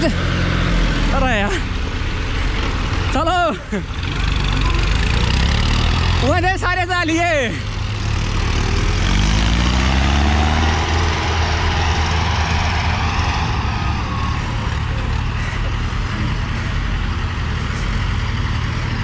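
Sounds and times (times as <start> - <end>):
diesel engines low rumble: 0.0 - 19.0
tractor passing close by: 0.0 - 19.0.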